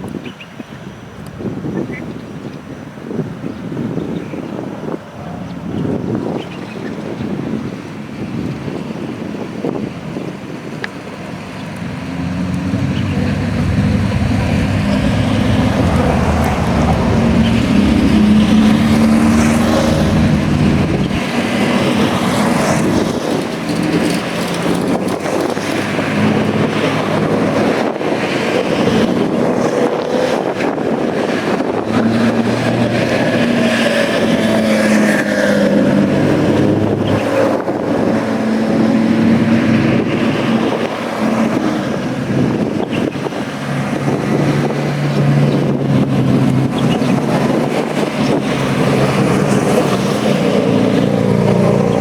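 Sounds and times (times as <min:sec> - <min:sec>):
wind noise on microphone: 0:00.0 - 0:52.0
sports car engines revving: 0:03.7 - 0:52.0.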